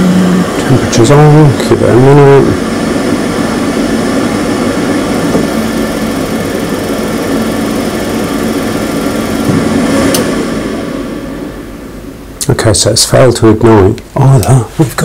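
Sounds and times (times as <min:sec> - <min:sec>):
boiler fan humming: 0:00.0 - 0:15.0.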